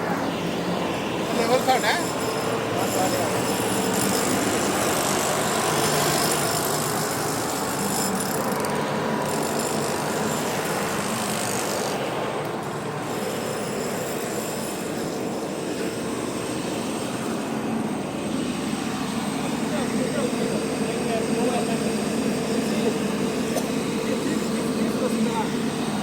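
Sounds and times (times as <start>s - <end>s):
machinery droning: 0.0s - 26.0s.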